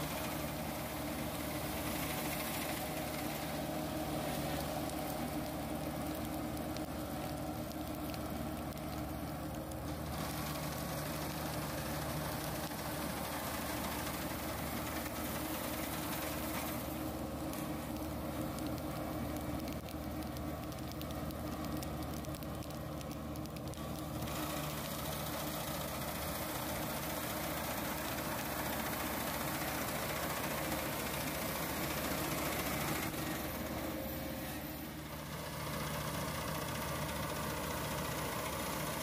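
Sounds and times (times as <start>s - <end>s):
combine harvester engine drone: 0.0s - 39.0s
threshing machinery noise: 0.0s - 39.0s.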